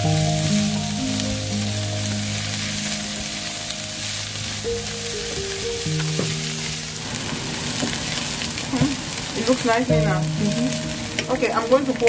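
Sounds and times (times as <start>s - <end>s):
background music with held notes: 0.0s - 8.2s, 9.9s - 12.0s
vegetables sizzling in a frying pan: 0.0s - 12.0s.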